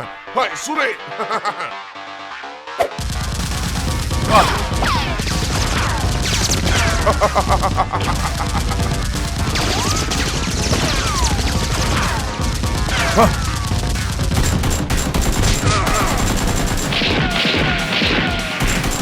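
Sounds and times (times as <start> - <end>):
background music: 0.0 - 19.0
rapid gunfire sound effects: 3.0 - 19.0.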